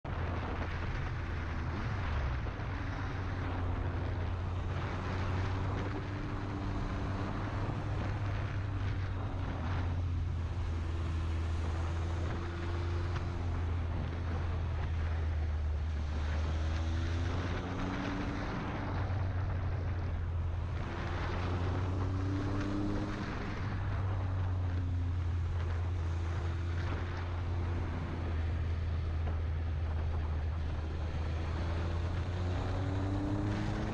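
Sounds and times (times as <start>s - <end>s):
motorcycle engine accelerating: 0.0s - 33.9s
wind rush: 0.0s - 33.9s.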